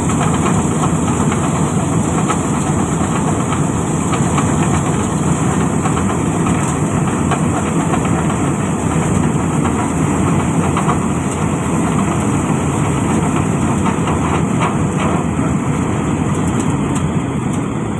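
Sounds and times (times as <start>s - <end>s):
grain auger rattling: 0.0s - 17.6s
combine harvester rumbling: 0.0s - 17.9s.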